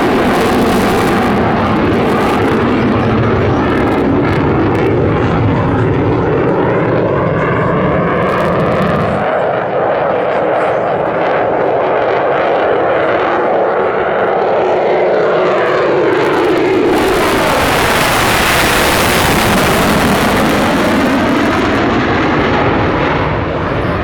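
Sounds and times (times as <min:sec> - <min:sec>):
jet flying past: 0:00.0 - 0:10.4, 0:11.2 - 0:24.0.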